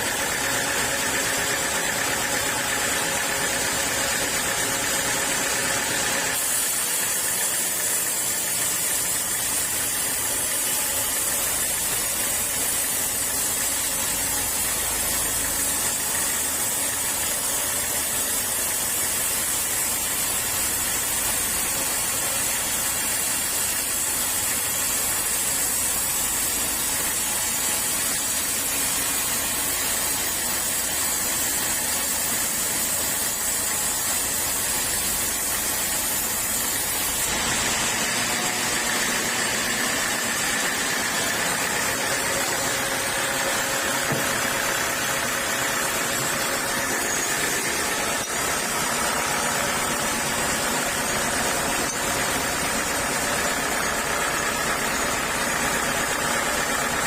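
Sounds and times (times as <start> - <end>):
saw cutting through log: 0.0 - 57.0.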